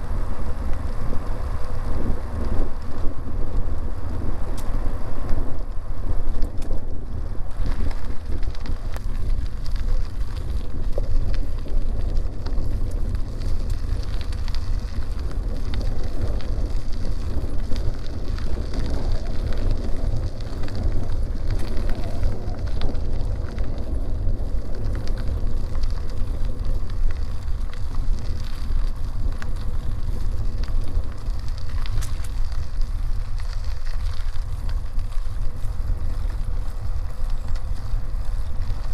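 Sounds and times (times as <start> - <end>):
bicycle tyres rolling on dirt road: 0.0 - 38.9
small ticks: 0.0 - 38.9
wind rumbling on microphone: 0.0 - 38.9.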